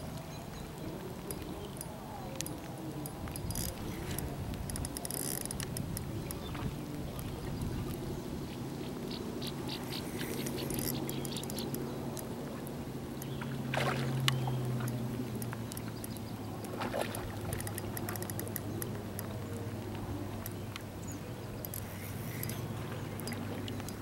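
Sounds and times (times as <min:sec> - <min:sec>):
water lapping against rocks: 0:00.0 - 0:24.0.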